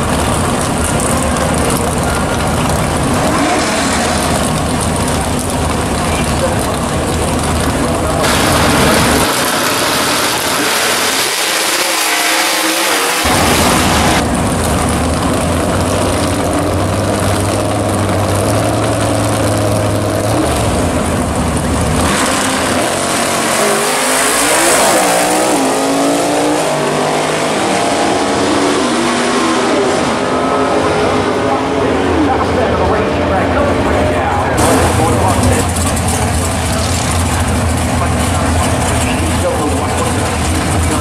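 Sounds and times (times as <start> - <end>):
car engines idling loudly: 0.0 - 41.0
cars accelerating hard: 0.0 - 41.0.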